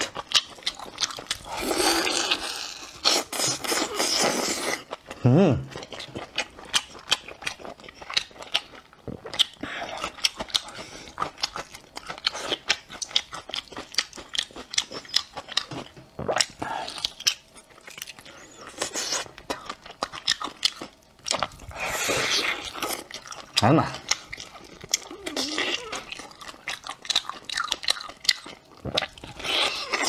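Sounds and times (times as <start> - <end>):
man chewing and gnawing meat: 0.0 - 30.0.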